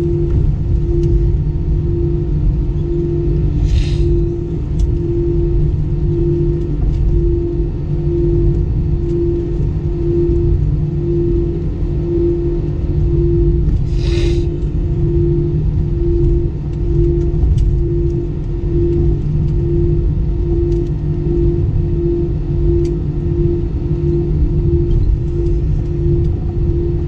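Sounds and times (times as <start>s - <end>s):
jet cabin engine rumble: 0.0s - 27.0s.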